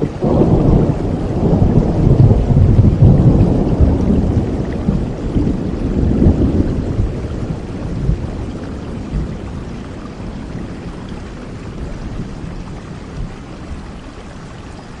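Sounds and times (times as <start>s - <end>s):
low rumble of thunder: 0.0s - 15.0s
steady rain: 0.0s - 15.0s.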